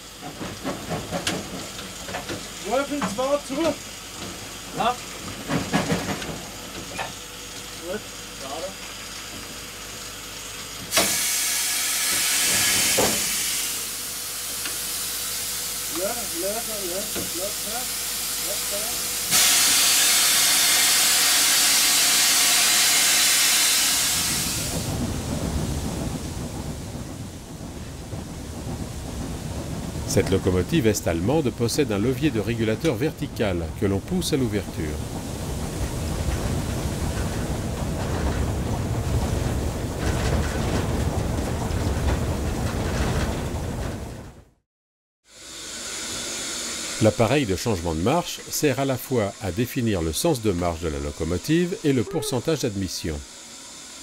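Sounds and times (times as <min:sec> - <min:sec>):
steam hissing: 0:00.0 - 0:40.7, 0:45.3 - 0:54.0.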